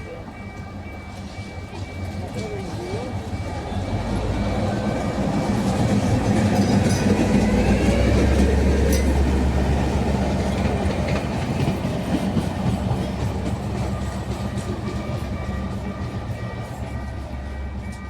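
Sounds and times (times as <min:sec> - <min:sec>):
low train drone: 0:00.0 - 0:18.0
train wheels clicking over rail joints: 0:00.2 - 0:18.0.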